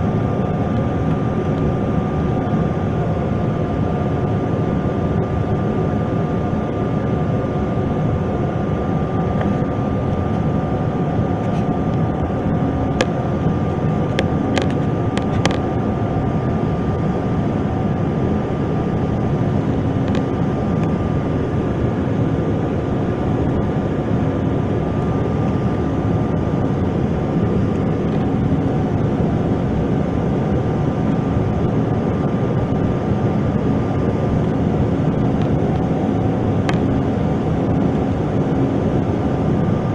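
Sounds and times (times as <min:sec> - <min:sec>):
jet cabin engine drone: 0:00.0 - 0:39.9.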